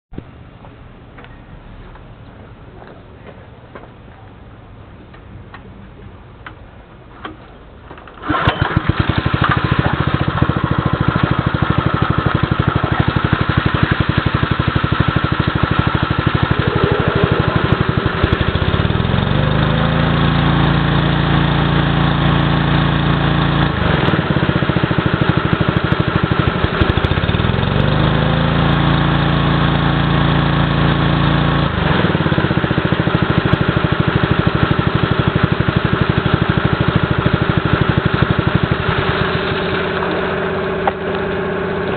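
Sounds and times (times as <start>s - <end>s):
small petrol engine running: 8.2s - 41.9s.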